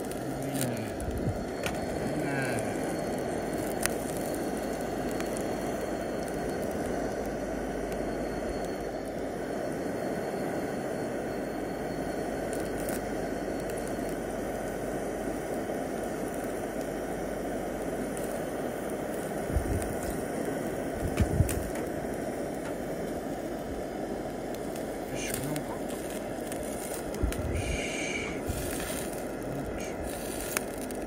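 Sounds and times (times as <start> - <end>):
cooking fat crackling: 0.0 - 31.0
gas burner flame hissing: 0.0 - 31.0.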